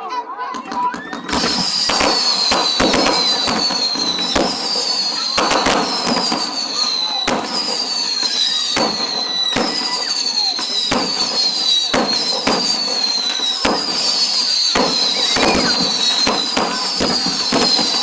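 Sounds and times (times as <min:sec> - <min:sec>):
fireworks bangs and crackles: 0:00.5 - 0:18.0
fireworks whistling: 0:00.6 - 0:18.0.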